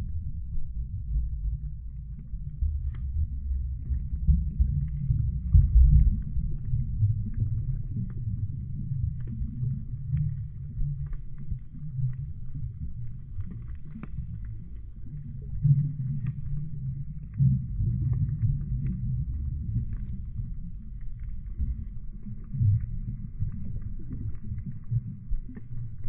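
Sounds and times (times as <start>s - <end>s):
faint clicks and ticks: 0.0s - 26.0s
muffled underwater water rumble: 0.0s - 26.0s.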